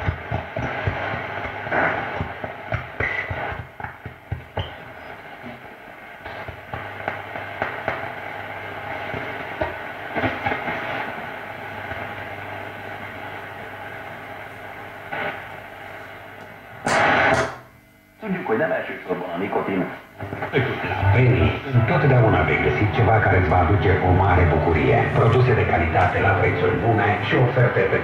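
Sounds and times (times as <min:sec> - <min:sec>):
snatches of station audio: 0:00.0 - 0:11.2, 0:13.4 - 0:18.0, 0:20.0 - 0:28.0
radio static and crackle: 0:00.0 - 0:28.0
steady low hum: 0:00.0 - 0:28.0.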